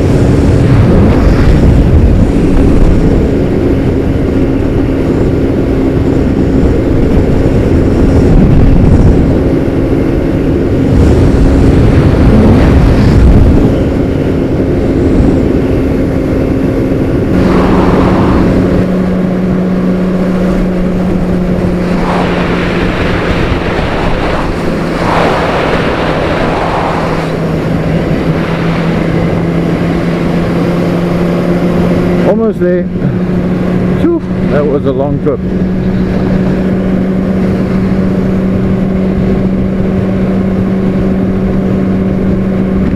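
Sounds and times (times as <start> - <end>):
motorcycle engine cruising: 0.0 - 42.9
wind noise: 0.0 - 42.9.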